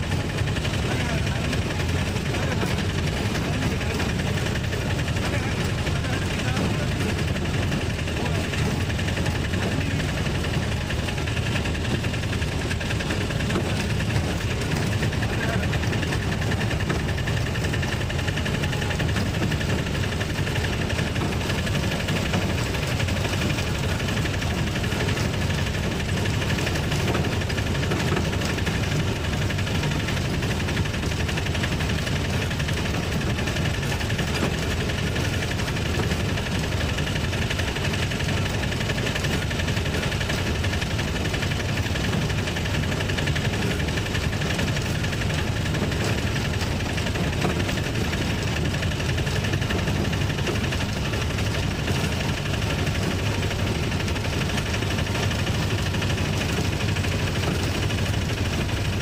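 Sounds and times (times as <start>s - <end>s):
auto-rickshaw engine running: 0.0s - 59.0s.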